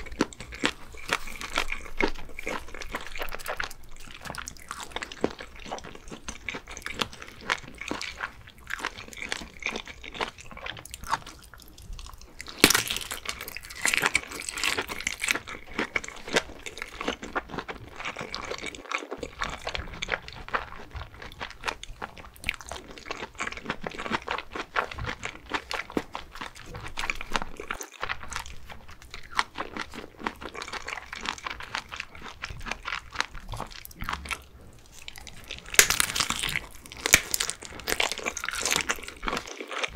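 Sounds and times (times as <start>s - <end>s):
biting into sausage: 0.0s - 39.9s
wet chewing: 0.0s - 39.9s.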